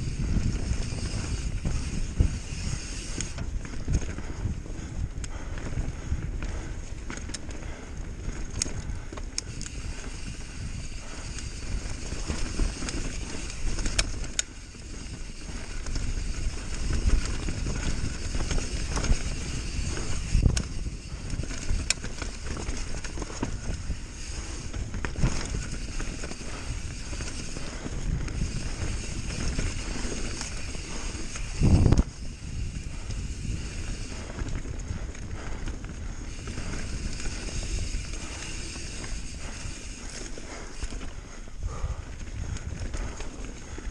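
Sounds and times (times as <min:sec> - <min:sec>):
bike clicks and rattles: 0:00.0 - 0:43.9
bike tyres rumbling over dirt: 0:00.0 - 0:43.9.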